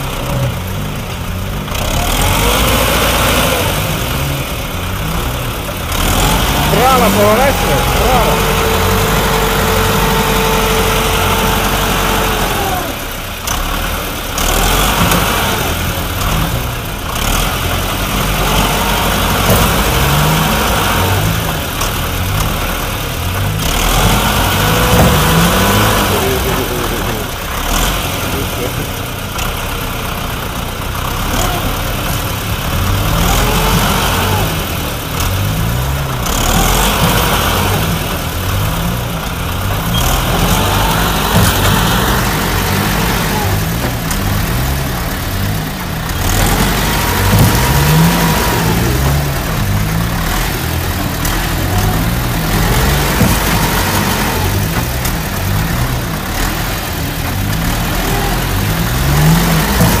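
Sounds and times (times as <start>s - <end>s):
vehicle engines revving: 0.0s - 60.0s.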